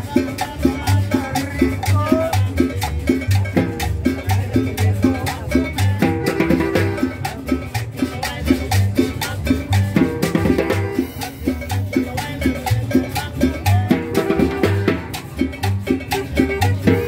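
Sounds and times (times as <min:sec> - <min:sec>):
bass beat: 0:00.0 - 0:17.0
busy percussion: 0:00.0 - 0:17.0
latin dance band music: 0:00.0 - 0:17.0.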